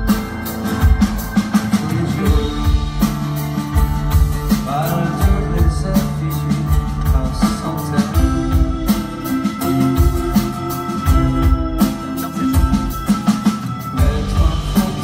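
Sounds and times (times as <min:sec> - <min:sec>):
acoustic and electric guitars: 0:00.0 - 0:15.0
drums keeping a beat: 0:00.0 - 0:15.0.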